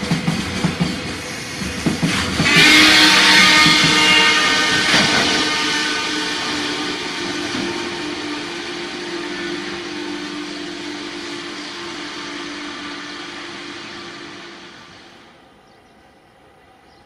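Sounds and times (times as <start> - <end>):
train rumble and rail noise: 0.0 - 17.0.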